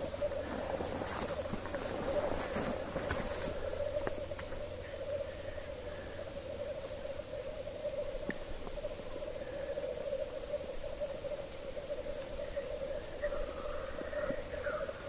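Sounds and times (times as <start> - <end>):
grouse bubbling cooing chorus: 0.0 - 15.0.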